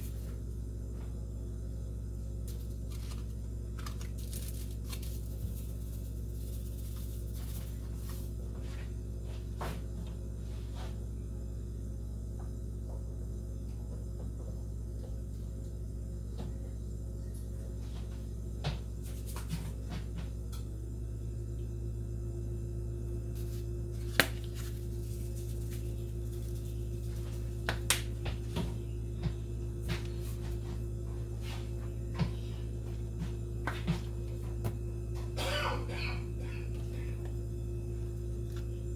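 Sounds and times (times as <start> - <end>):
low hum: 0.0 - 38.9.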